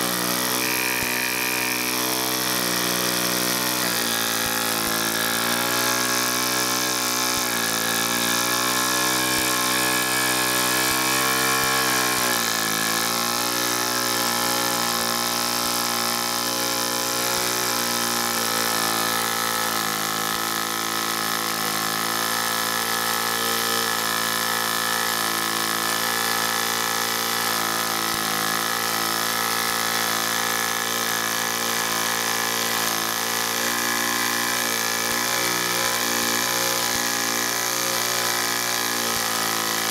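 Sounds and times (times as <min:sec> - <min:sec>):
model steam engine buzzing: 0:00.0 - 0:39.9.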